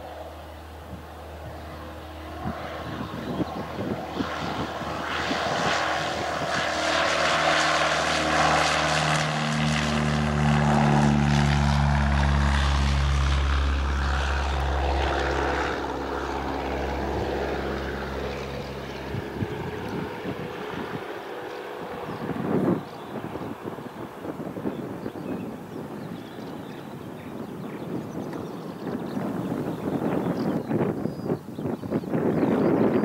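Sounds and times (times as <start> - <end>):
propeller plane engine: 0.0 - 33.0.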